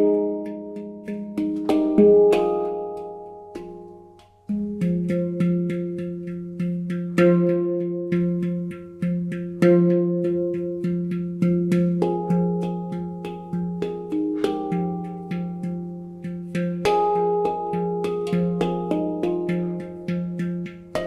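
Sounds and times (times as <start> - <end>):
handpan notes played by hand: 0.0 - 21.0.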